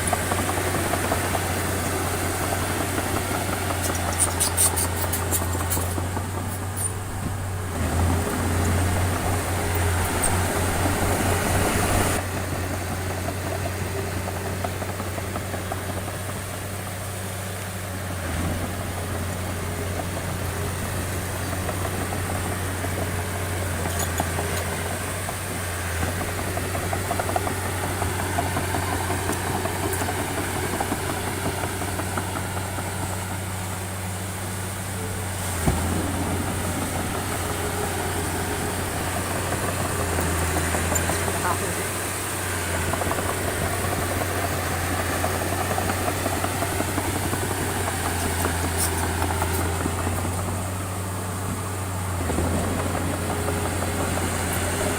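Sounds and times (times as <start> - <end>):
heavy machine diesel engine running: 0.0 - 54.9.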